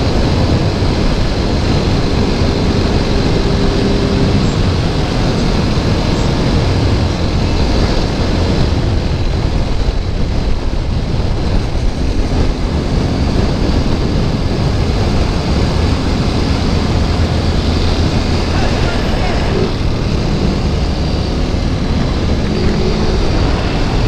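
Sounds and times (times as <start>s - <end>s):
motorcycle engine running: 0.0s - 24.0s
wind rushing over microphone: 0.0s - 24.0s.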